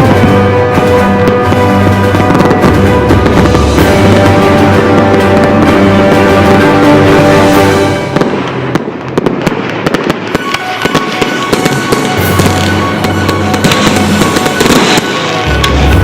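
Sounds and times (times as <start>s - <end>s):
loud music: 0.0s - 9.3s, 10.7s - 16.0s
fireworks crackling bangs: 0.0s - 16.0s.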